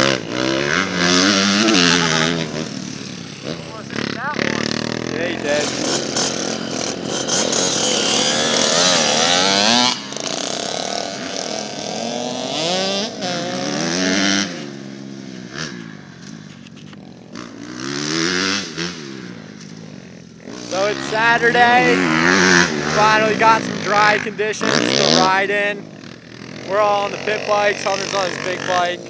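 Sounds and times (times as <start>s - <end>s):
pit bike engines revving: 0.0s - 29.0s.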